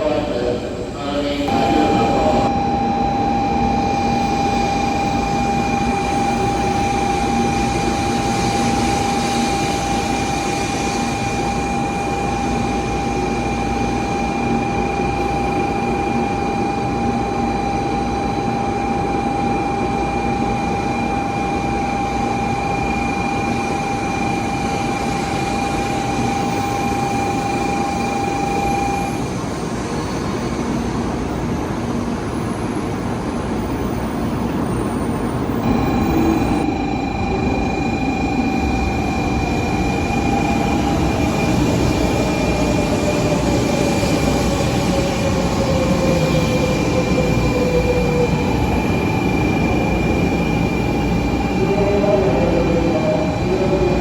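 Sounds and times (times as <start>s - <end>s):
high whine: 1.0s - 29.8s, 34.9s - 54.0s.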